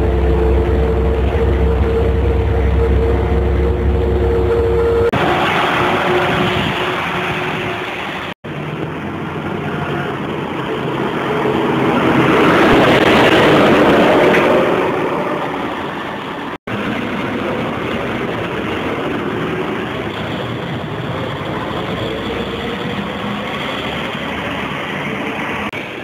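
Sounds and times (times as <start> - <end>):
bus diesel engines: 0.0 - 26.0
street traffic: 0.0 - 26.0.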